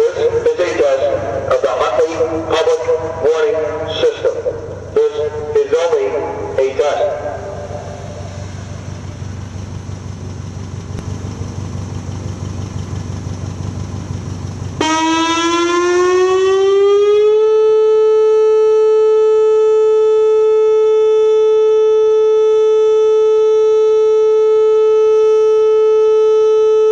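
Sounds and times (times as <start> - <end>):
outdoor warning siren: 0.0 - 10.0, 14.6 - 26.9.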